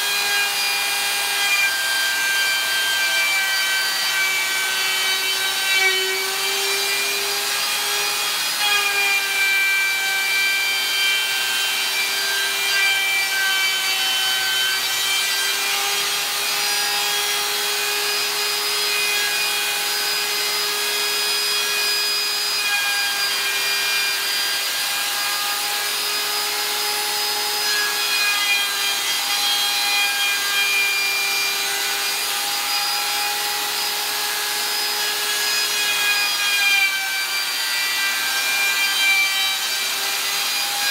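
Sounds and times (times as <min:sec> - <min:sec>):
router motor whine: 0:00.0 - 0:40.9.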